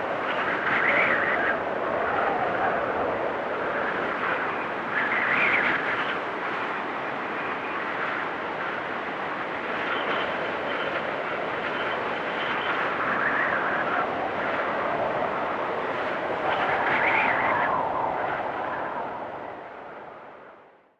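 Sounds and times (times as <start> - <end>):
strong gusty wind whistling: 0.0 - 20.9.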